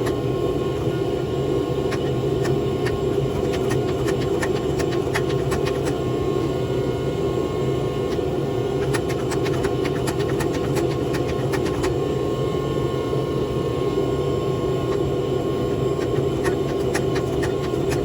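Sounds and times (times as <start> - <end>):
forge equipment roaring: 0.0 - 18.0.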